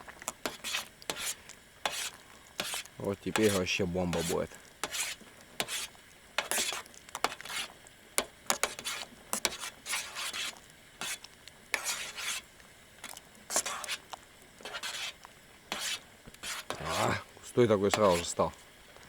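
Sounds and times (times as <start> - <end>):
spoon stirring a pot: 0.0 - 18.6.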